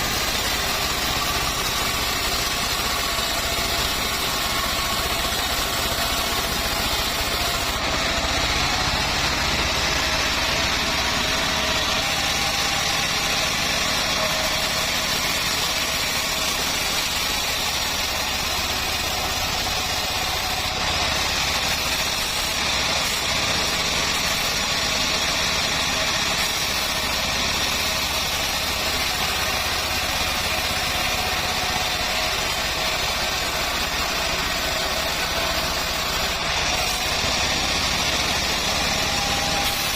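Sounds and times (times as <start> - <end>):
bandsaw mill running: 0.0 - 39.9.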